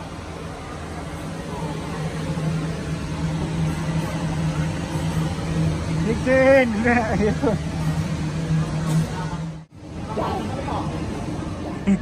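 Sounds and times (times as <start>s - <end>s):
low mechanical hum: 0.0s - 12.0s
noisy indoor background: 0.0s - 12.0s.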